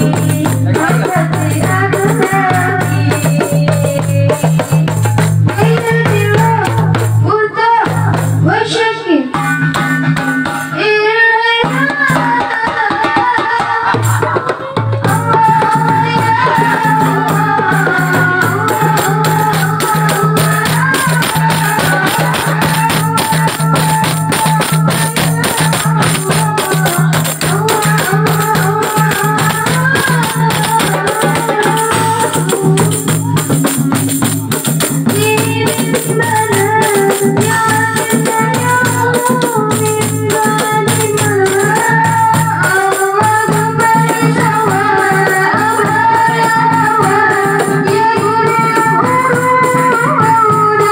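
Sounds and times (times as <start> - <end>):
jingling tambourine: 0.0 - 7.2, 15.0 - 50.9
woman singing: 0.0 - 9.9, 10.6 - 33.6, 34.8 - 50.9
hand drums beating: 0.0 - 50.9.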